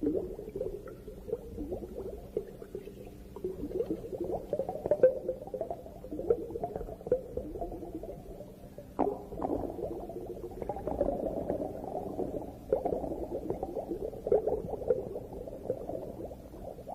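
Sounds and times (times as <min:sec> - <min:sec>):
underwater bubbling and gurgling: 0:00.0 - 0:16.9.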